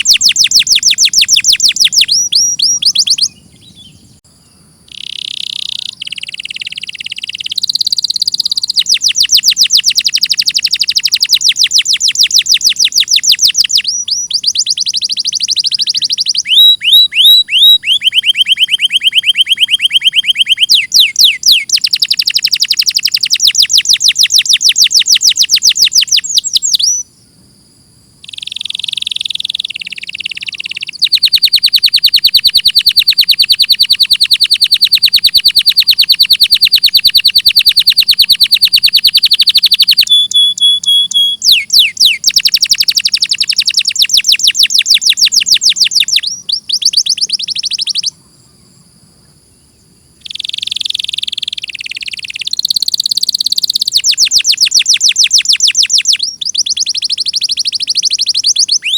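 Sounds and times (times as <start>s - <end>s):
canary singing trills: 0.0s - 27.1s, 28.2s - 48.8s, 49.5s - 58.9s.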